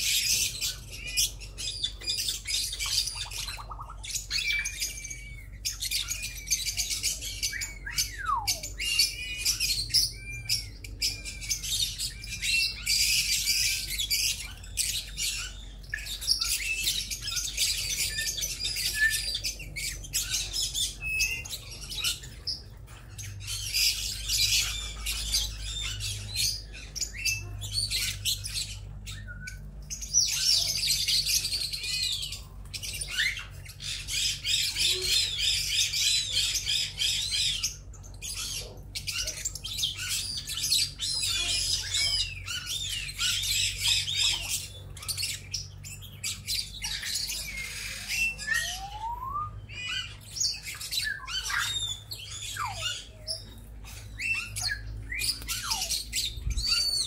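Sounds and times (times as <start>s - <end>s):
parrots chattering and squawking: 0.0s - 57.0s.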